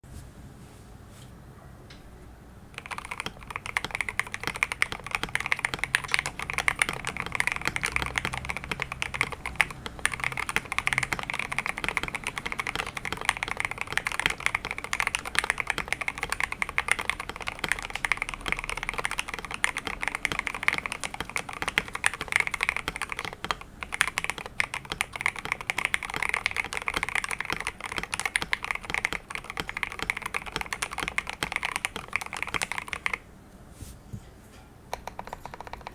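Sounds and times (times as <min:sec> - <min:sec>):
mechanical keyboard typing: 0:02.8 - 0:33.2, 0:34.9 - 0:35.9.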